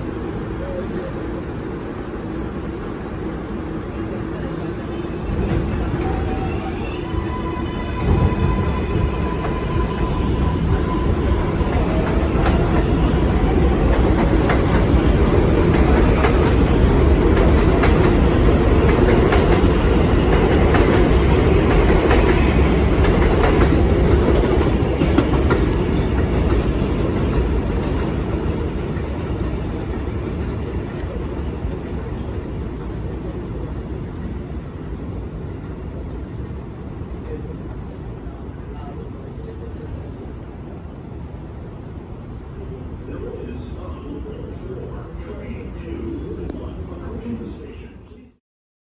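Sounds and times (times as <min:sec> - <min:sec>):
subway train rumbling past: 0:00.0 - 0:48.4.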